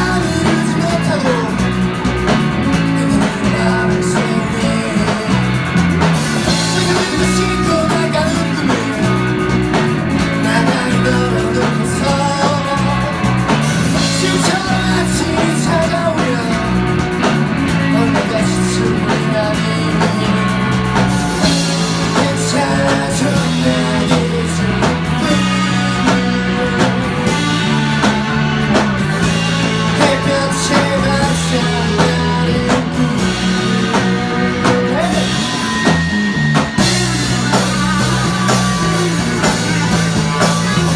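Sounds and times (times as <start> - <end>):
person singing: 0.0 - 28.6, 29.5 - 40.9
drum kit: 0.0 - 40.9
electric guitar: 0.0 - 40.9.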